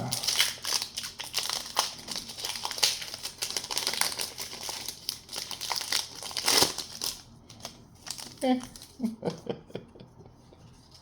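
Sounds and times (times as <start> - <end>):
foil wrapper crinkling: 0.0 - 9.1.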